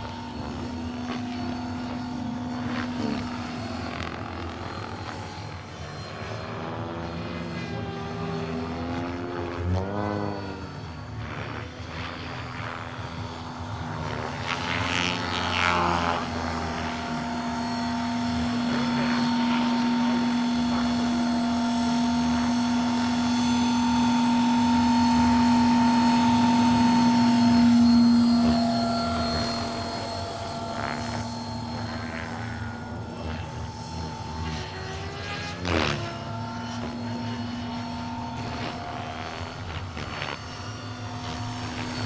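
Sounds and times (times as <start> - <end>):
model helicopter drone and whine: 0.0 - 42.0.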